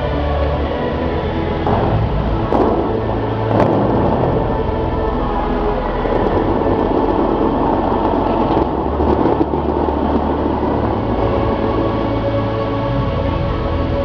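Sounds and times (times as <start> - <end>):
fountain water jets rushing: 0.0 - 14.0
music playing: 0.0 - 14.0.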